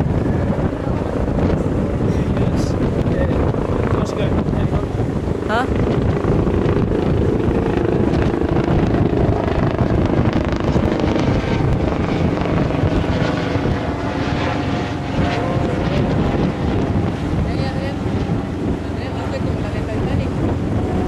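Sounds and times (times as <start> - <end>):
boat engine running: 0.0 - 21.0
wind buffeting microphone: 0.0 - 21.0.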